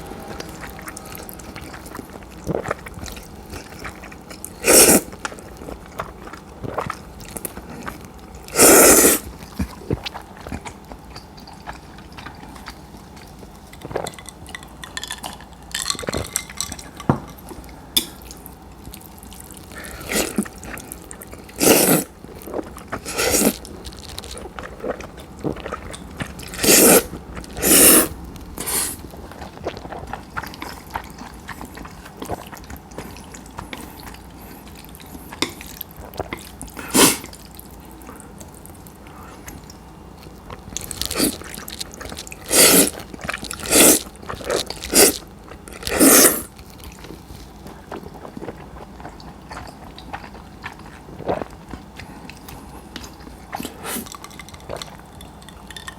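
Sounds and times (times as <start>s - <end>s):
noodles being slurped: 0.0s - 16.9s, 19.2s - 39.7s, 40.3s - 55.9s
chewing: 0.0s - 55.9s.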